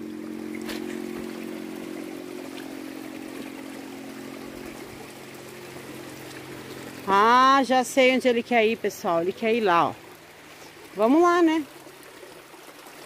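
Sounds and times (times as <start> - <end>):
low mechanical hum: 0.0 - 13.0
stream running: 0.0 - 13.0.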